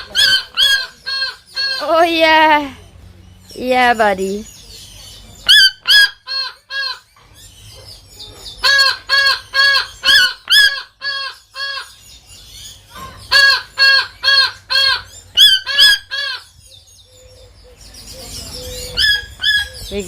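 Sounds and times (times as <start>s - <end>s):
toucan calling: 0.0s - 3.7s, 5.4s - 20.0s.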